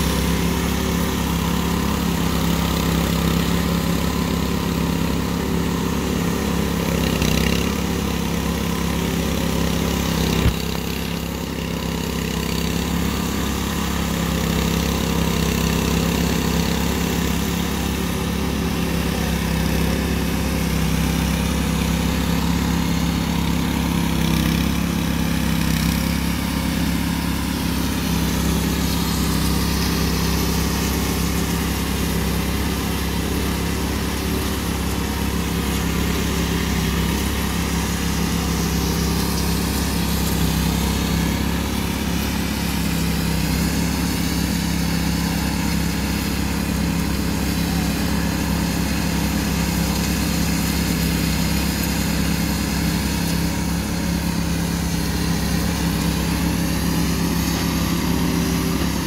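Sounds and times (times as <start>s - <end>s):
power trowel engines humming: 0.0s - 59.0s.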